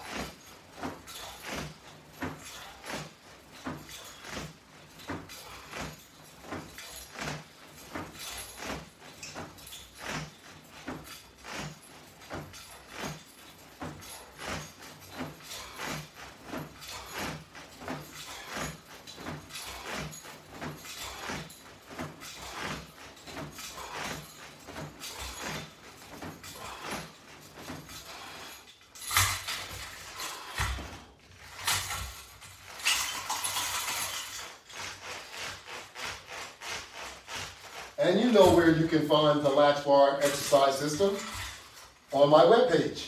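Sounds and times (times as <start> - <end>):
rustling of body movement: 0.0 - 43.0
straps and metal hardware clinking: 0.0 - 43.0.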